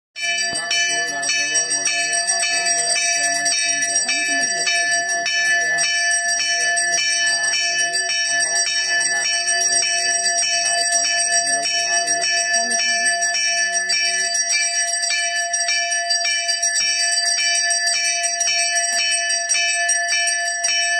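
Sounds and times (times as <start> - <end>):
temple bell ringing: 0.2 - 20.9.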